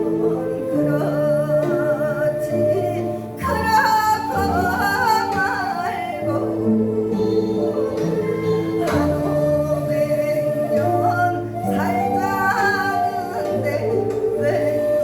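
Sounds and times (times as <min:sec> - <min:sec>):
instrumental accompaniment: 0:00.0 - 0:15.0
woman singing with vibrato: 0:00.0 - 0:15.0.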